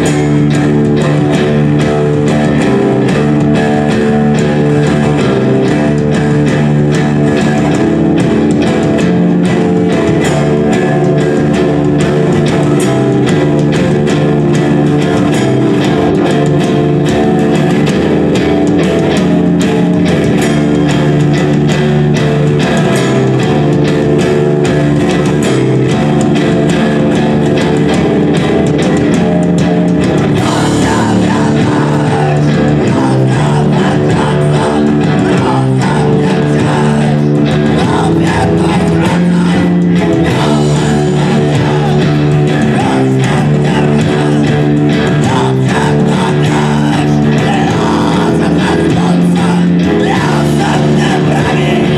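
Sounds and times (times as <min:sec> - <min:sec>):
live rock band playing: 0:00.0 - 0:51.9.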